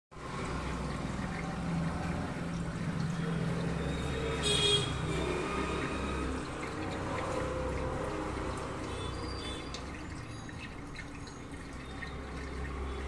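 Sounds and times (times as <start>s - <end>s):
water trickling: 0.1s - 13.0s
aquarium filter humming: 0.2s - 13.0s.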